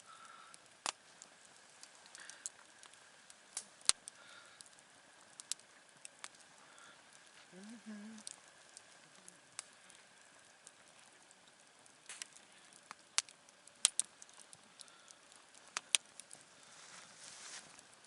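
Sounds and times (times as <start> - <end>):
sharp pops of fire: 0.0 - 7.4, 8.2 - 17.9
campfire crackling: 0.0 - 18.0.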